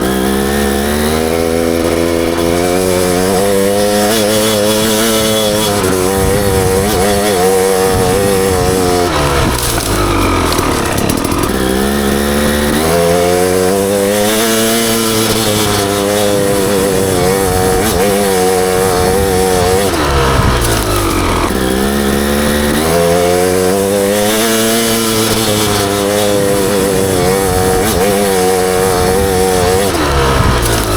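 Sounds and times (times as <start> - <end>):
dirt bike engine revving: 0.0 - 30.9.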